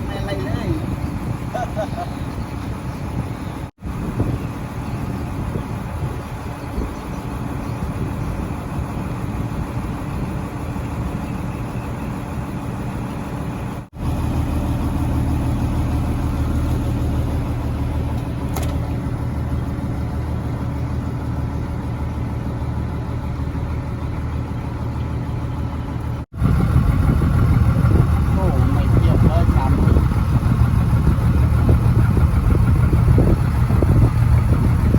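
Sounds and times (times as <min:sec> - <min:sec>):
boat engine droning: 0:00.0 - 0:34.9.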